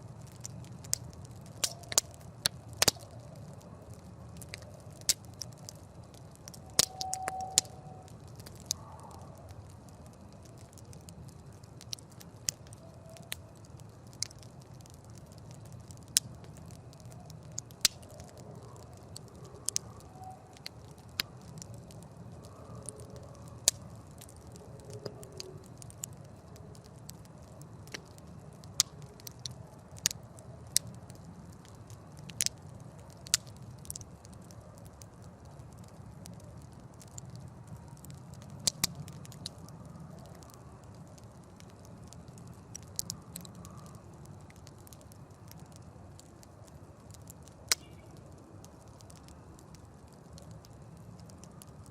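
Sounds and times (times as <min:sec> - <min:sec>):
campfire crackling and popping: 0:00.0 - 0:51.9
low rumble of fire: 0:00.0 - 0:51.9.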